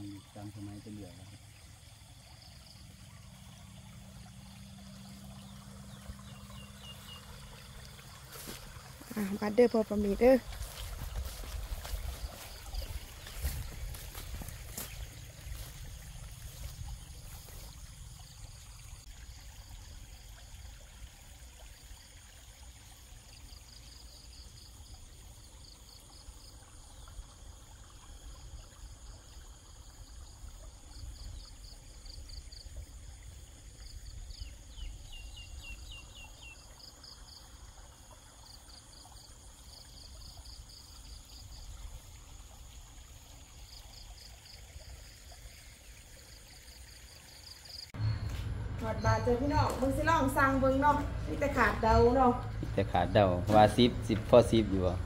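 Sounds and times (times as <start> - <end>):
insects chirping in trills: 0.0 - 55.0.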